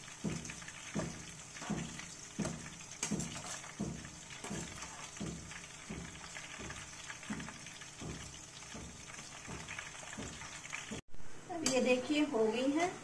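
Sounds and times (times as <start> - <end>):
food sizzling in hot oil: 0.0 - 11.0
slotted spoon stirring oil: 0.0 - 11.0.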